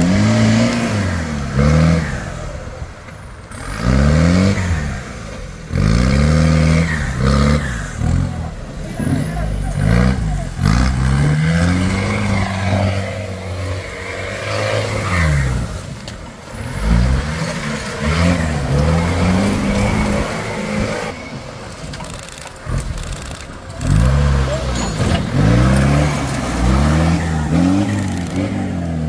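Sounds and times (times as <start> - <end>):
jeep engine revving: 0.0 - 29.0.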